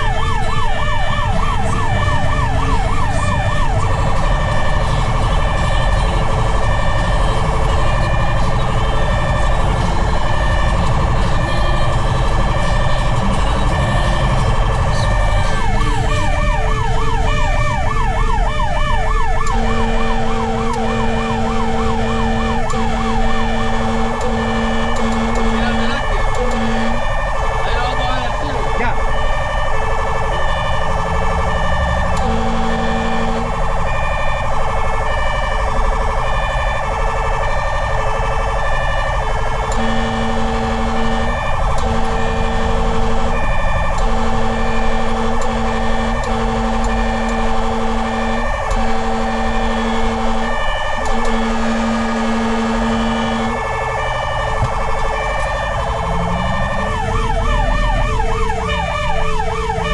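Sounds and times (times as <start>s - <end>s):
engine low rumble: 0.0s - 59.9s
fire truck siren: 0.0s - 59.9s.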